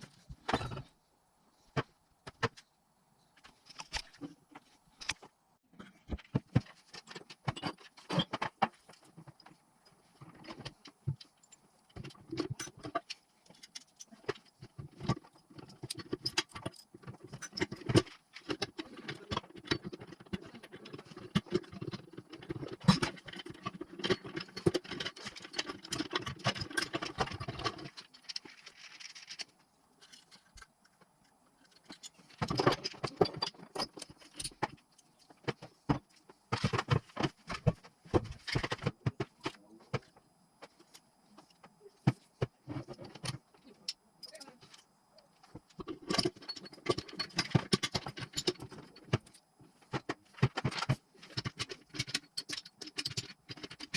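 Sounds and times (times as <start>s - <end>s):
metal tools and parts clinking: 0.1s - 1.0s, 5.8s - 40.2s, 40.8s - 53.9s.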